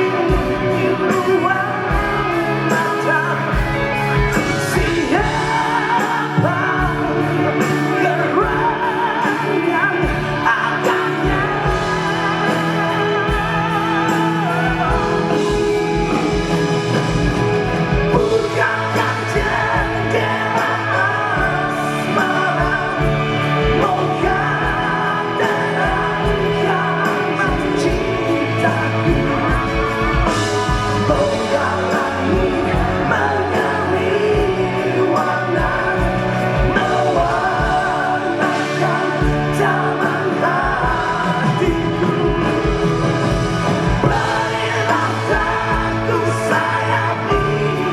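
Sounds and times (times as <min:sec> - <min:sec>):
band playing pop-rock with singer: 0:00.0 - 0:47.9.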